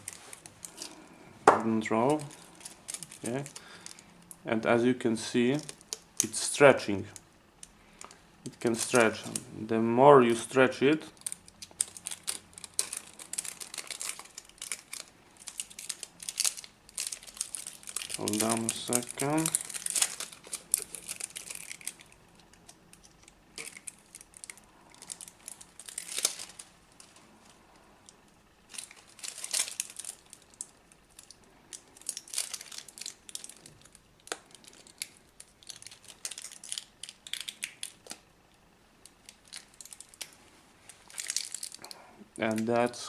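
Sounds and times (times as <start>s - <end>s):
tape crinkling and rustling: 0.0s - 4.8s, 5.4s - 9.5s, 10.3s - 43.0s.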